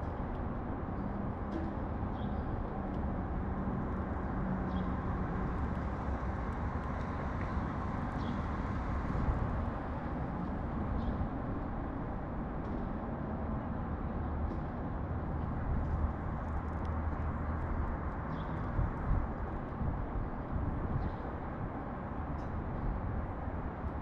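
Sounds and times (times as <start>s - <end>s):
low rumble of city traffic: 0.0s - 24.0s.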